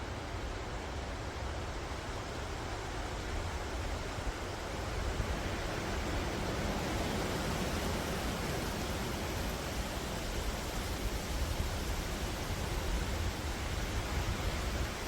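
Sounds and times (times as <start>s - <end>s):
wind rustling leaves: 0.0s - 15.0s.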